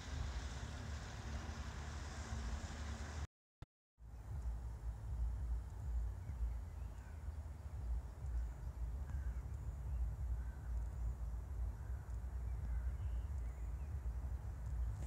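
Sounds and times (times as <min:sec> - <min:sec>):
steady low rumble: 0:00.0 - 0:03.3, 0:04.0 - 0:15.0.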